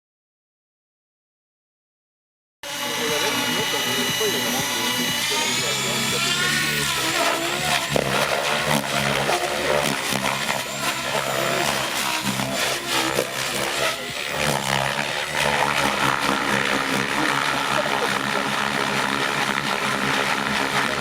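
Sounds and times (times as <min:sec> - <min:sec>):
rc helicopter rotor and motor: 0:02.6 - 0:21.0.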